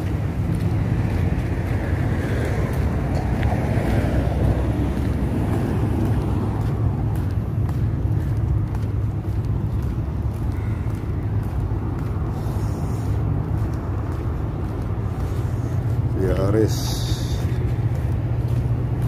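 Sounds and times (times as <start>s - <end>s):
road traffic rumbling: 0.0s - 19.0s
vehicle passing by: 0.0s - 19.0s.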